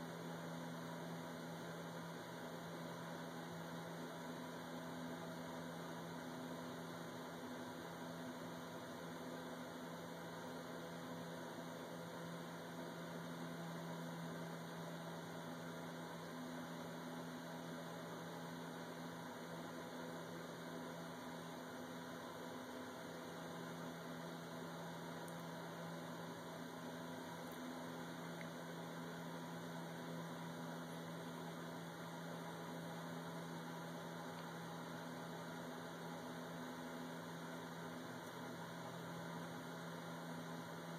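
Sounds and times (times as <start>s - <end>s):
low even hum: 0.0s - 40.9s.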